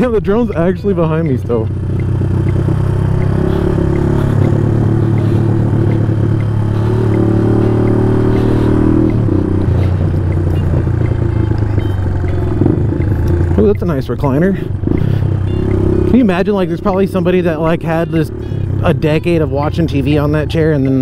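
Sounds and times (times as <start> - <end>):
background music with light beat: 0.0 - 13.8, 14.4 - 21.0
motorcycle riding: 0.0 - 21.0.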